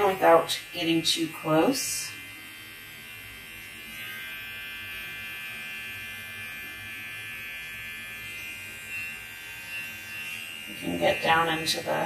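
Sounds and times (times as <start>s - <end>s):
pet trimmer buzzing: 0.0s - 12.0s.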